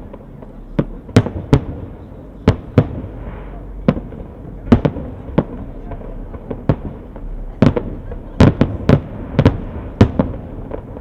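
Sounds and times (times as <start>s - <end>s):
background rumble and hiss: 0.0s - 11.0s
firework bangs: 0.0s - 11.0s.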